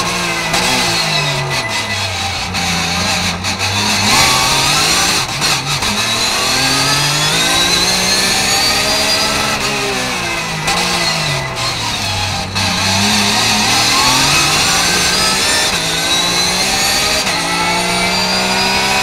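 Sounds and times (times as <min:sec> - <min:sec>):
racing engine revving: 0:00.0 - 0:19.0.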